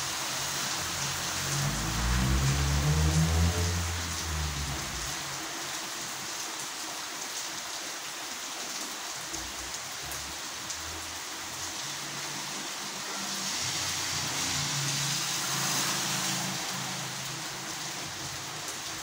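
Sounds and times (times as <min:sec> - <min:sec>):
heavy rain on wet pavement: 0:00.0 - 0:19.0.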